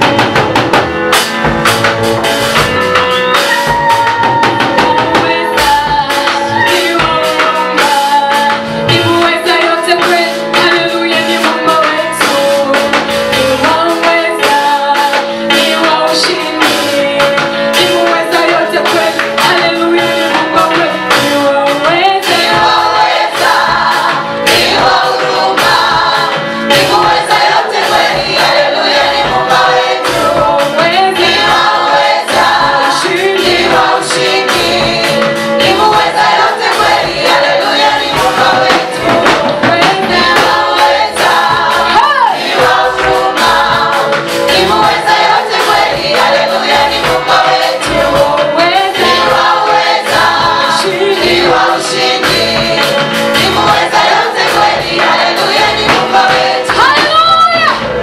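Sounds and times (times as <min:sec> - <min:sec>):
choir singing gospel with band: 0:00.0 - 0:58.0.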